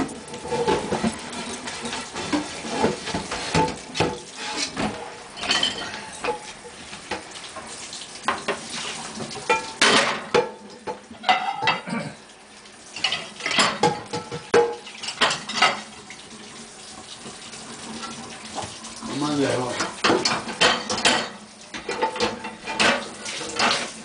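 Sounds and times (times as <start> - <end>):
dishes clattering into dishwasher racks: 0.0 - 7.3, 8.3 - 12.2, 13.0 - 15.9, 18.0 - 24.0.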